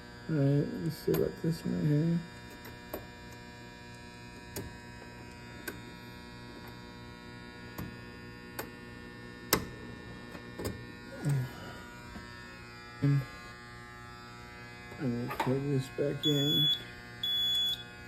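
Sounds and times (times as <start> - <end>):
electrical buzzing hum: 0.0 - 18.0.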